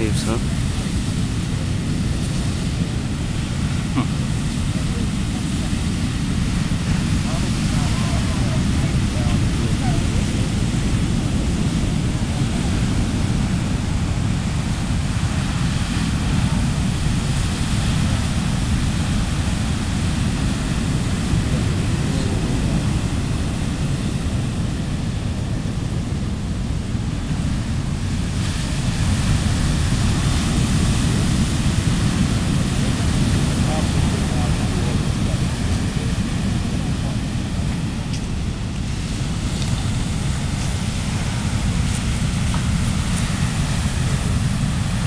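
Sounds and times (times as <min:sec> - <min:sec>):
surf breaking on beach: 0:00.0 - 0:45.0
wind rumbling on microphone: 0:00.0 - 0:45.0.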